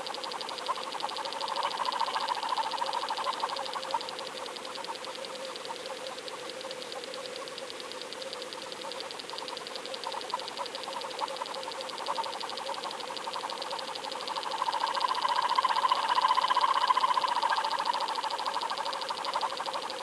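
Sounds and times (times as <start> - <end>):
steady underwater hum: 0.0 - 20.0.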